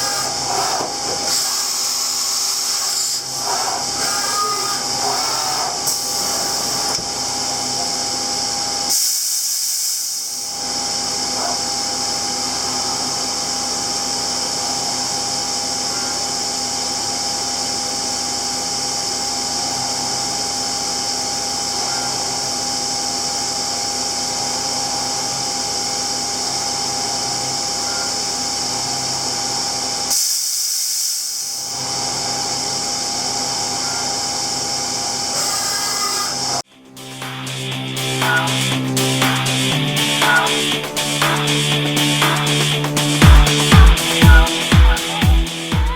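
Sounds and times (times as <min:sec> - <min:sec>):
machine spindle whining: 0:00.0 - 0:45.9.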